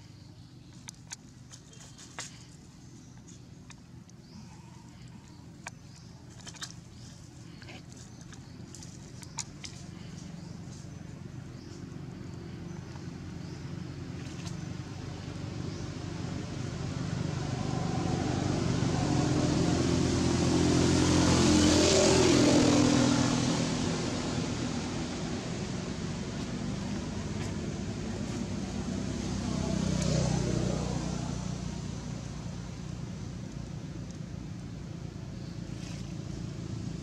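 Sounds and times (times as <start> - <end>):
vehicle engine passing by: 3.2 - 37.0.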